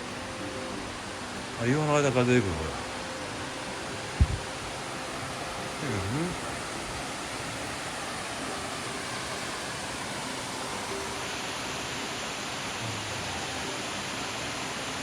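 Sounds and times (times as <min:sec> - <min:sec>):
waterfall splashing over rocks: 0:00.0 - 0:15.0.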